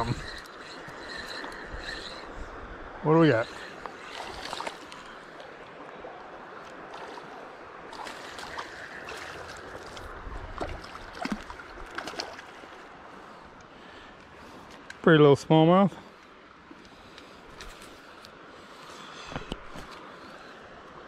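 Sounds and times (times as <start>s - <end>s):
creek water running: 0.0s - 21.0s.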